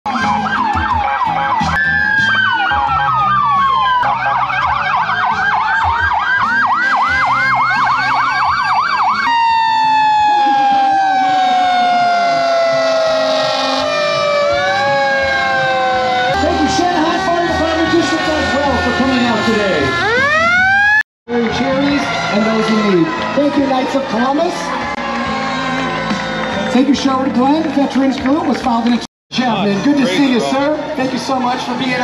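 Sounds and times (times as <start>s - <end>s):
wailing siren: 0.1s - 26.8s
yelping sirens: 0.1s - 26.8s.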